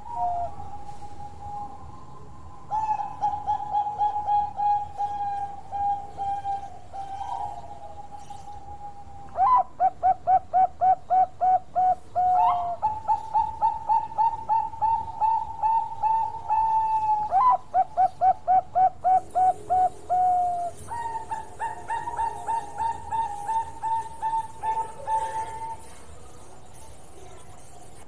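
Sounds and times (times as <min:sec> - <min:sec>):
dove cooing: 0:00.0 - 0:26.4.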